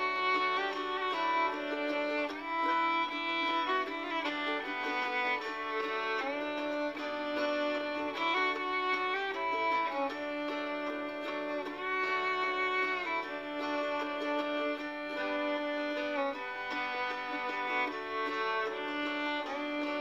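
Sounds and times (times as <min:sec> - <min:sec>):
violin long held notes: 0:00.0 - 0:20.0.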